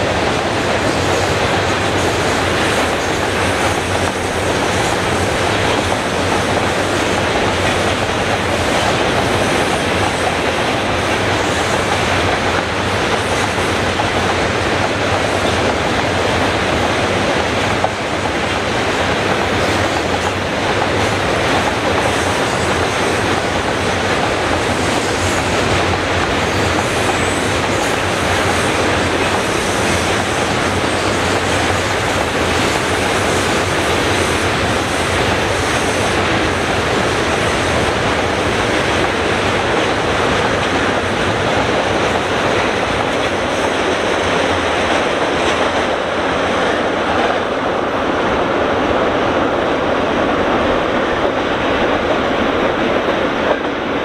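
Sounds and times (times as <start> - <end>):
steel train wheels on track: 0.0 - 54.0.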